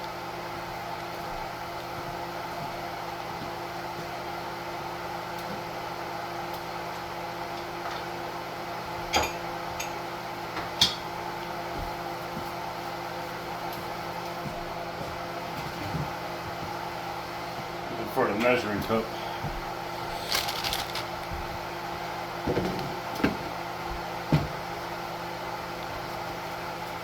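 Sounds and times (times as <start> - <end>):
appliance or fan humming: 0.0 - 27.0.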